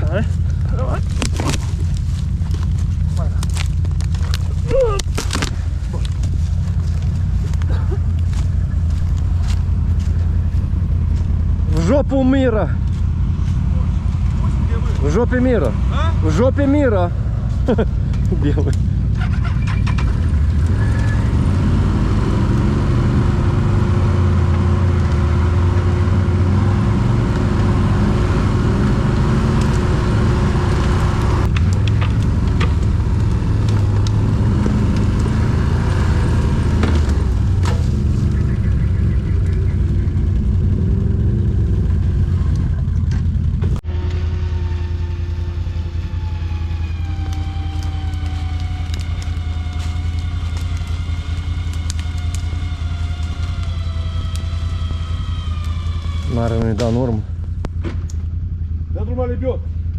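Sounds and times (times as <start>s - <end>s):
atv engine running under load: 0.0s - 59.9s.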